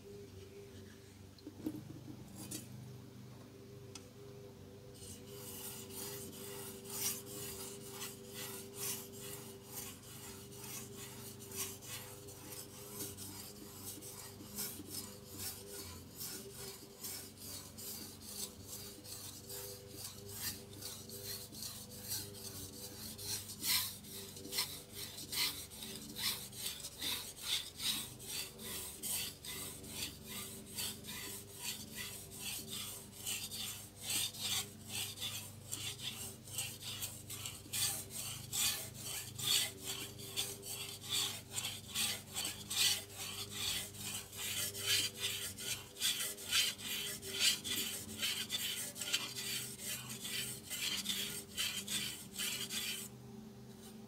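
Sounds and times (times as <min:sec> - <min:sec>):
faint steady hum: 0:00.0 - 0:54.0
knife scraping on whetstone: 0:02.4 - 0:02.7, 0:05.0 - 0:53.1.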